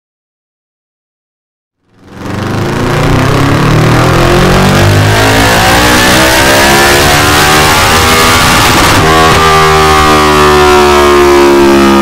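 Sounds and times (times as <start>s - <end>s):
motorcycle engine revving: 1.8s - 12.0s.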